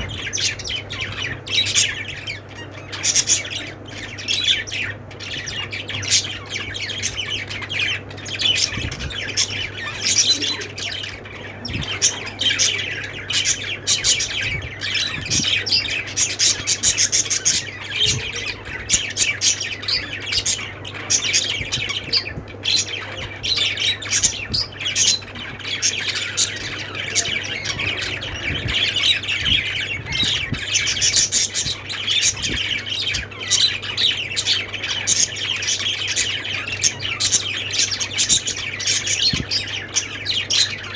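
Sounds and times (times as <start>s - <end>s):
parrots chirping and squawking: 0.0s - 40.9s.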